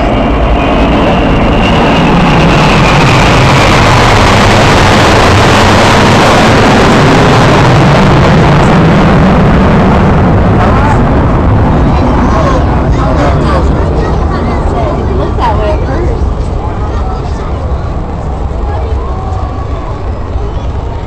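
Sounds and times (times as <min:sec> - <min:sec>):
high jet whine falling in pitch: 0:00.0 - 0:21.0
jet engines roaring: 0:00.0 - 0:21.0.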